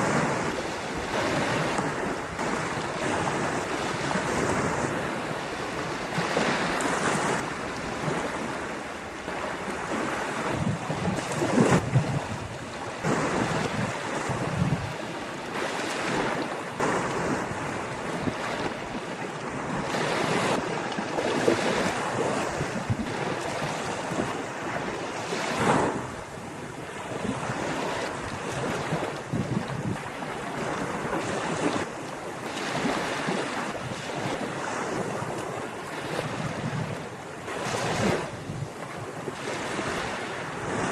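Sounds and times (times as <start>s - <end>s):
ocean waves breaking on beach: 0.0s - 40.9s
wind buffeting microphone: 0.0s - 40.9s.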